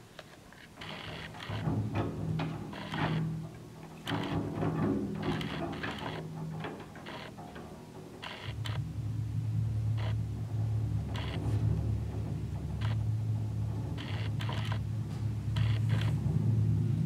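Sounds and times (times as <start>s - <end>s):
low drone: 0.8s - 17.0s.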